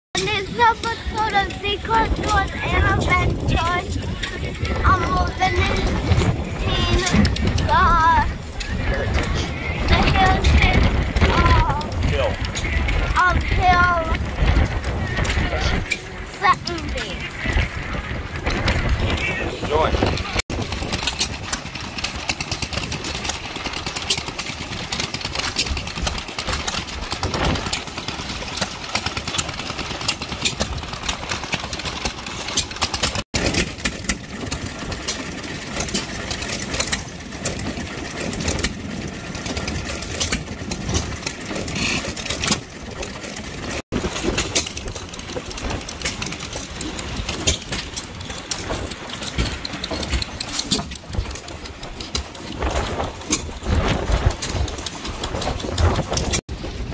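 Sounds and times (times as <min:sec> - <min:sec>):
stationary gas engines running: 0:00.2 - 0:56.9.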